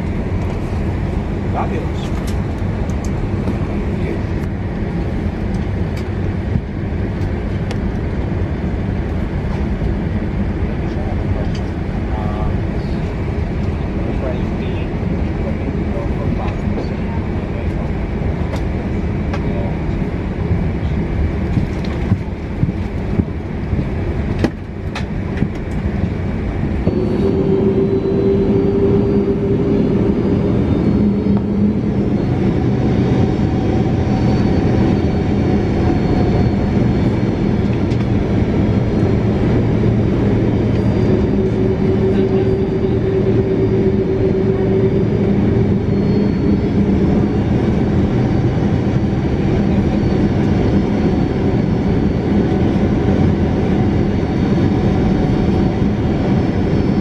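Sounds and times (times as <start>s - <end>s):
aircraft cabin rumble: 0.0s - 57.0s
steady engine tones: 0.0s - 57.0s.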